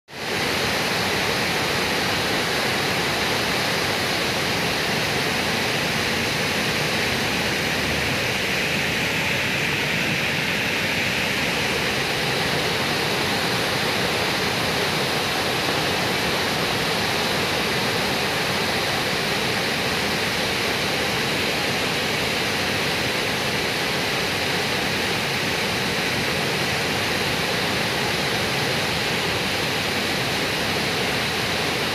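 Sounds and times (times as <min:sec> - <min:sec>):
water rushing over weir: 0:00.1 - 0:31.9.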